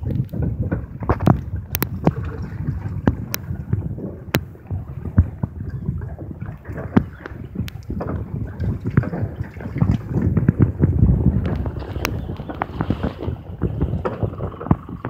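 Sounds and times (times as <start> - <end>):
river water lapping against dock: 0.0 - 15.0
water splashes: 0.0 - 15.0
wind buffeting microphone: 0.0 - 15.0.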